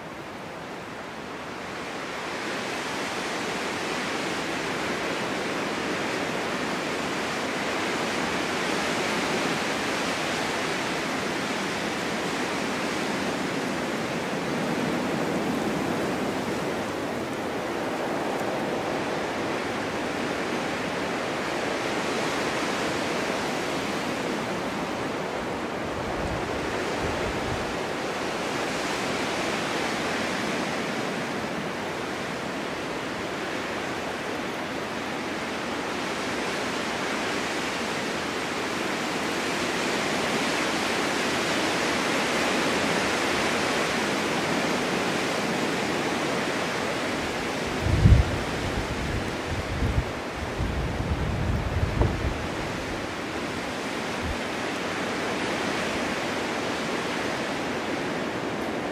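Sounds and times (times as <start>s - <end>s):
wind blowing in gusts: 0.0s - 58.9s.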